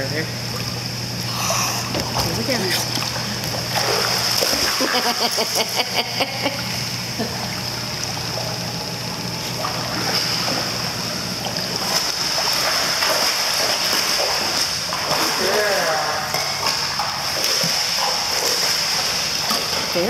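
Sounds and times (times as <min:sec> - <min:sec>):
pool water splashing: 0:00.0 - 0:20.0.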